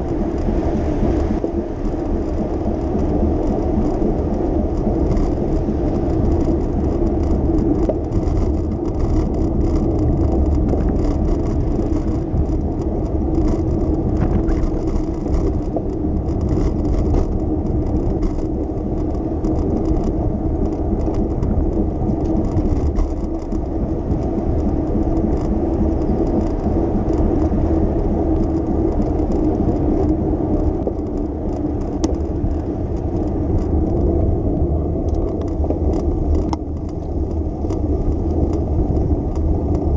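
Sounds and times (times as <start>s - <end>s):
bicycle road noise: 0.0s - 39.9s
traffic: 0.0s - 39.9s.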